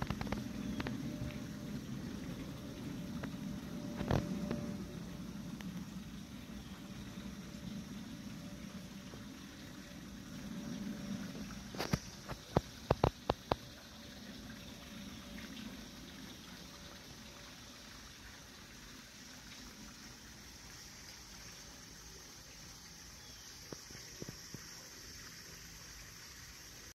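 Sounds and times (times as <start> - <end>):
faint steady rushing noise: 0.0 - 26.9.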